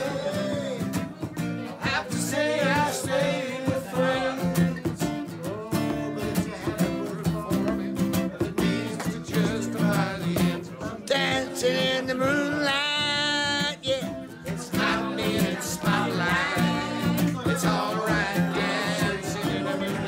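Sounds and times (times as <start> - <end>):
man singing: 0.0 - 20.0
strummed acoustic guitar: 0.0 - 20.0.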